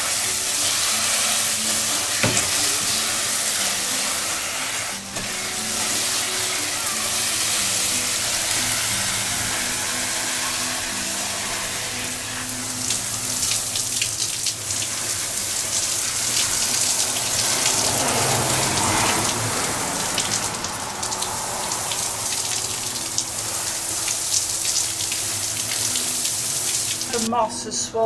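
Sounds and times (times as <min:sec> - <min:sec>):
hose nozzle spraying water: 0:00.0 - 0:27.3
water splashing and dripping: 0:00.0 - 0:27.3.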